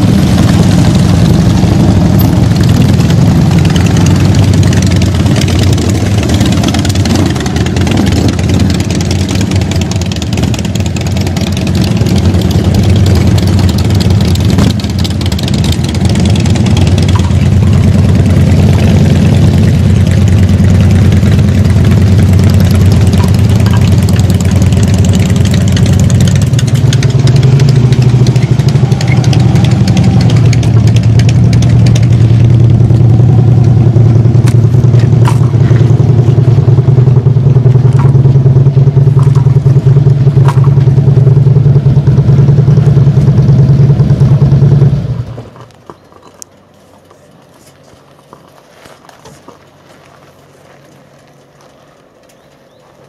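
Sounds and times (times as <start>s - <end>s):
motorcycle engines idling: 0.0s - 53.0s.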